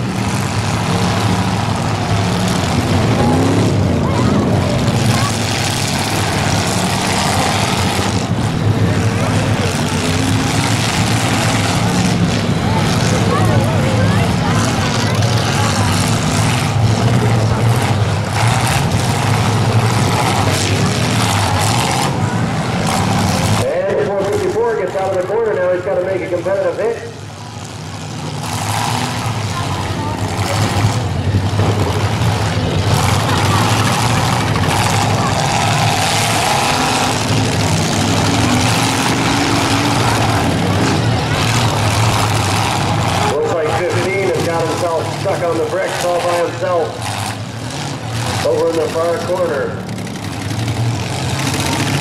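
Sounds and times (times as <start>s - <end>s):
car engines running loudly: 0.0s - 52.0s.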